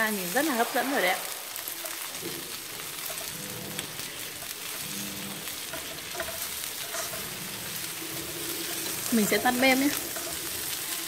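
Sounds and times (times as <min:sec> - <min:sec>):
chopsticks stirring in a pan: 0:00.0 - 0:11.0
meat sizzling in a frying pan: 0:00.0 - 0:11.0.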